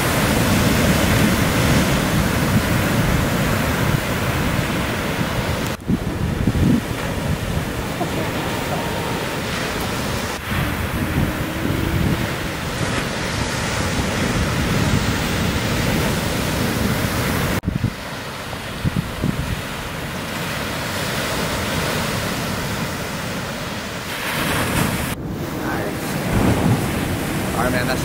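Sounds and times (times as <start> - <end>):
surf crashing: 0.0 - 28.0
wind buffeting microphone: 0.0 - 28.0.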